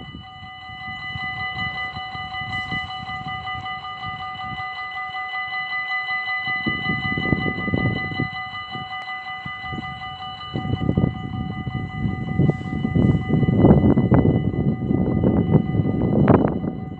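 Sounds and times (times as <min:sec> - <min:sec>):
level-crossing bells ringing: 0:00.0 - 0:16.9.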